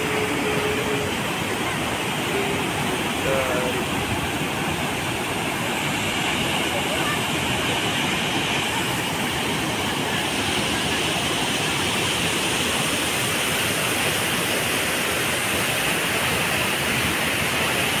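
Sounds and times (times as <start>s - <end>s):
floodwater roaring over a dam: 0.0s - 18.0s.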